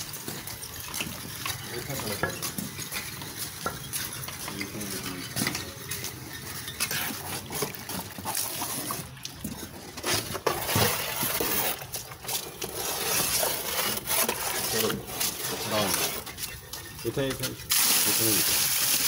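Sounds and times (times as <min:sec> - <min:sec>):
tool scraping metal wheelbarrow: 0:00.0 - 0:19.0.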